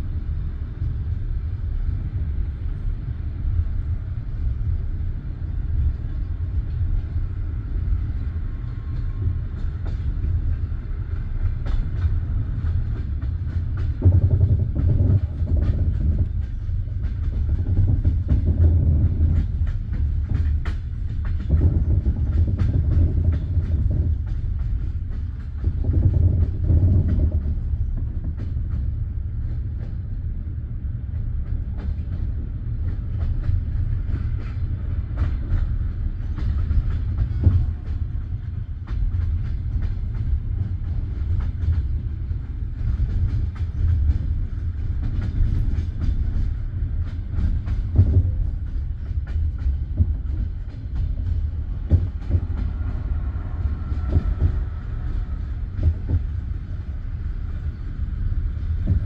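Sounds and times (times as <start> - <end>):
low train rumble: 0.0 - 59.0
train wheels clattering: 0.0 - 59.0.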